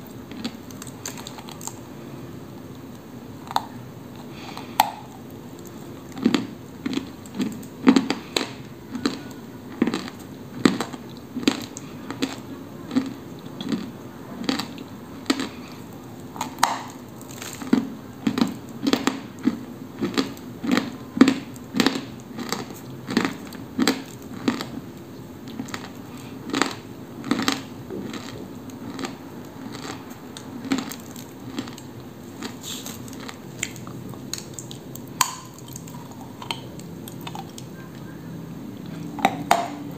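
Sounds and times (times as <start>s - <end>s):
crunchy food chewed: 0.0s - 39.9s.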